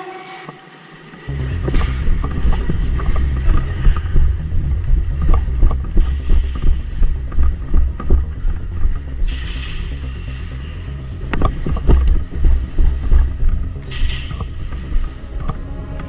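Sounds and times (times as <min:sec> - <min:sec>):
wind rumble on microphone: 0:01.3 - 0:16.0.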